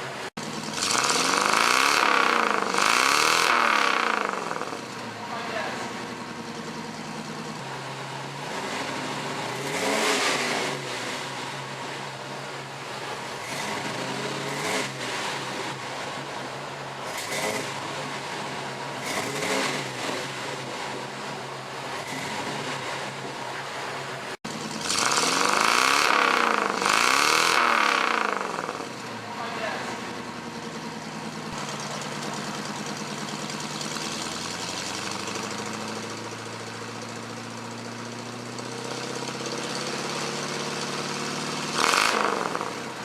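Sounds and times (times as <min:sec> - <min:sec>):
car engine idling and revving: 0:00.0 - 0:43.0.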